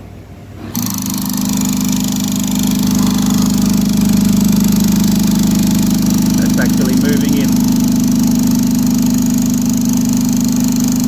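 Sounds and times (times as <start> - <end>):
hydraulic pump pulsing hum: 0.0 - 11.0.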